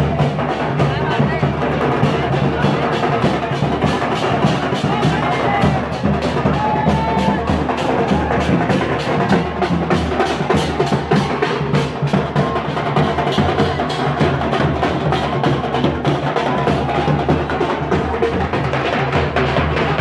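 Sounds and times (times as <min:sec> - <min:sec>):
fast loud drumming: 0:00.0 - 0:20.0.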